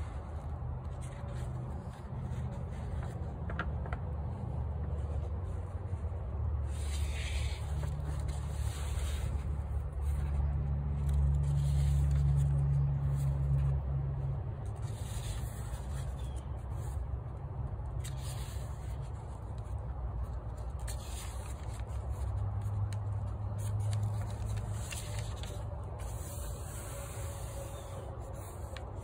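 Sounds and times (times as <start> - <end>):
book pages rustling: 0.0 - 29.0.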